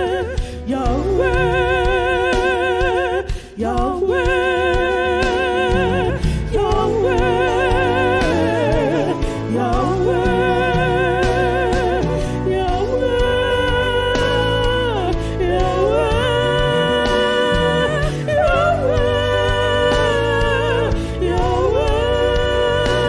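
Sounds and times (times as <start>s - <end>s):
gospel singing with vibrato: 0.0s - 23.0s
sustained bass: 0.0s - 23.0s.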